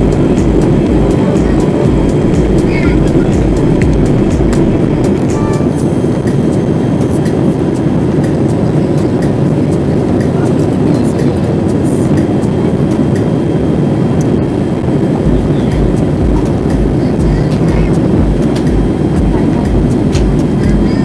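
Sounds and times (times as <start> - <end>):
airliner cabin engine roar: 0.0 - 21.0
low uneven rumble: 0.0 - 21.0.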